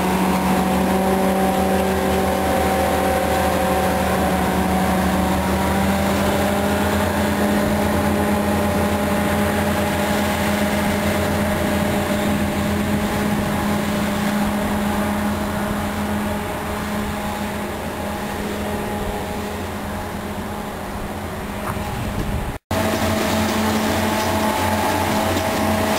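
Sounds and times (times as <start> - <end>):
diesel locomotive engine running: 0.0 - 25.9.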